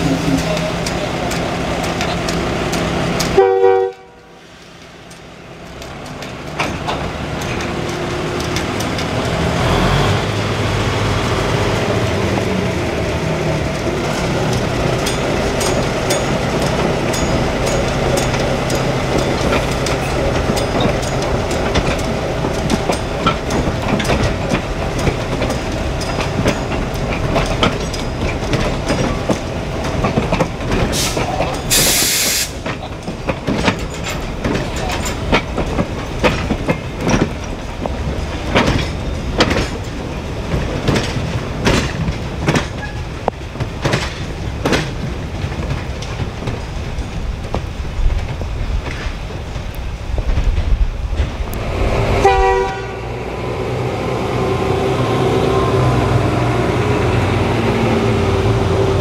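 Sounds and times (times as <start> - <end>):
wheels clicking over rail joints: 0.0 - 53.0
diesel locomotive engine drone: 0.0 - 59.0.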